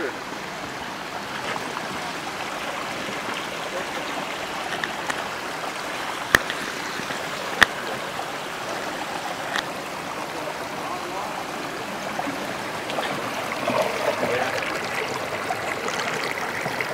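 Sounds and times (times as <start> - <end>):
stream flowing over rocks: 0.0 - 16.9.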